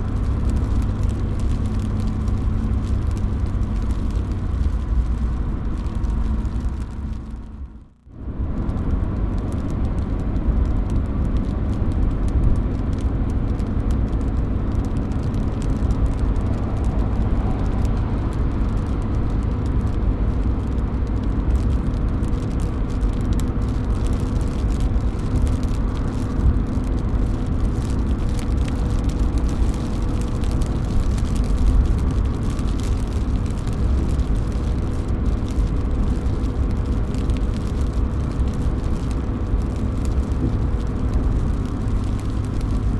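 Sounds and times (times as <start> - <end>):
deep rumble: 0.0 - 42.9
rain dripping off roof edge: 0.0 - 42.9.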